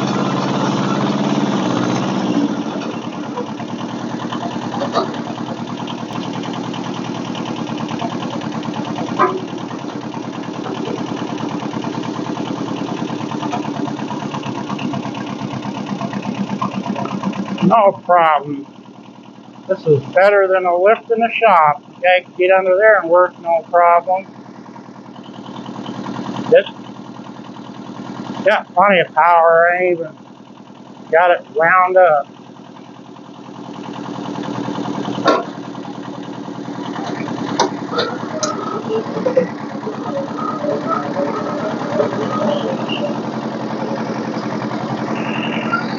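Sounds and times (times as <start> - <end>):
diesel engine running at low revs: 0.0 - 45.9.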